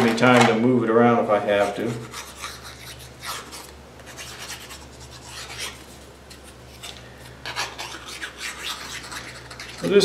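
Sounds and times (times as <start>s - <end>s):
scratchy rubbing of glue on part: 1.6s - 10.0s.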